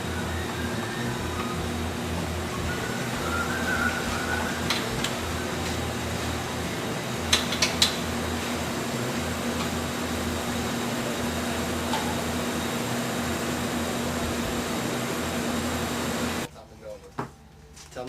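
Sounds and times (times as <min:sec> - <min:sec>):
fan humming: 0:00.0 - 0:16.8.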